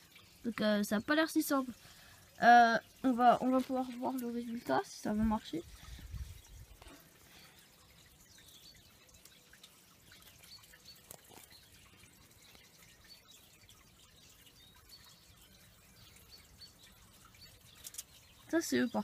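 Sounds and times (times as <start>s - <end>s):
water dripping and trickling: 0.0s - 19.0s.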